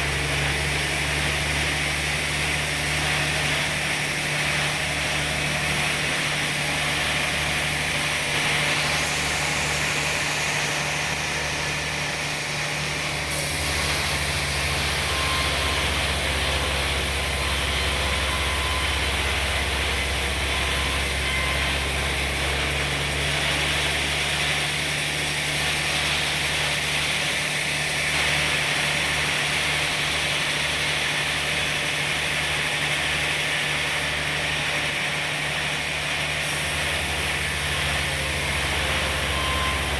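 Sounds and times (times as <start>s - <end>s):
saw running: 0.0s - 39.9s.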